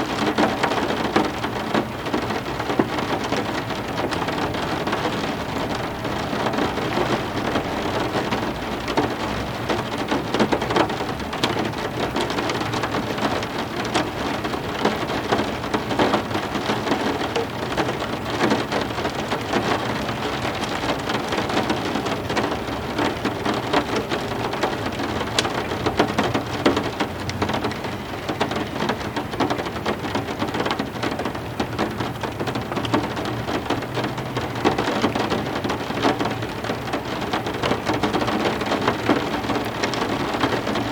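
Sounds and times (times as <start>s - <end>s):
heavy rain falling: 0.0s - 40.9s
raindrops hitting a surface: 0.0s - 40.9s.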